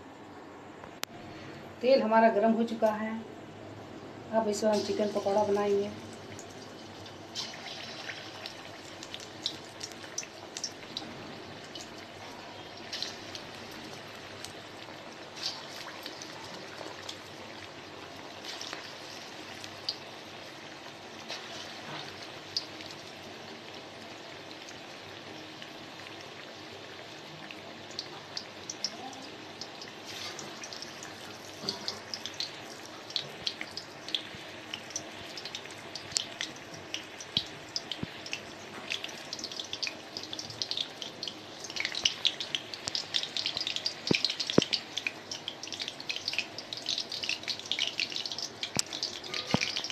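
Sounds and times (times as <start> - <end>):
oil sizzling: 4.4 - 49.9
oil popping and crackling: 4.7 - 49.9.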